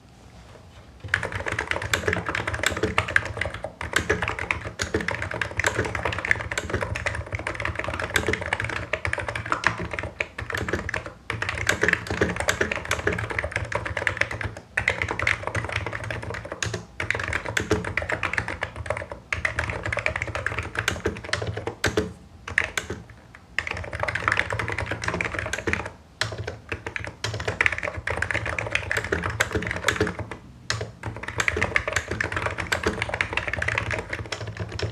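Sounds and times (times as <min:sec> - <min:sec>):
keyboard typing: 0:01.0 - 0:34.9.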